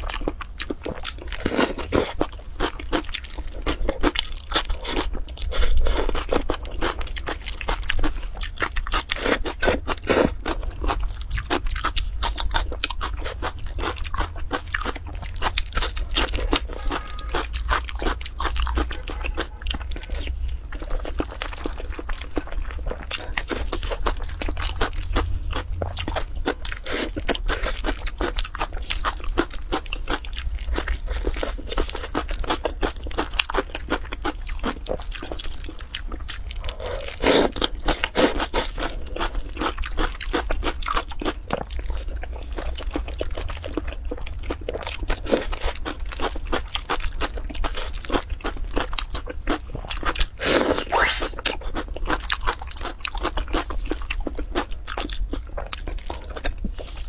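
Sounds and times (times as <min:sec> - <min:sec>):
low steady hum: 0:00.0 - 0:57.0
wet chewing and crunching: 0:00.0 - 0:57.0.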